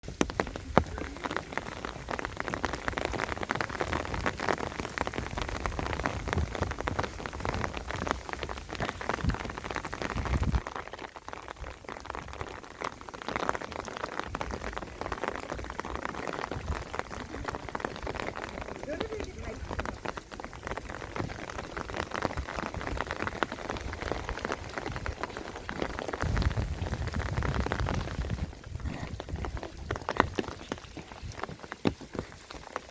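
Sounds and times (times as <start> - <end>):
rain patter: 0.0 - 32.9.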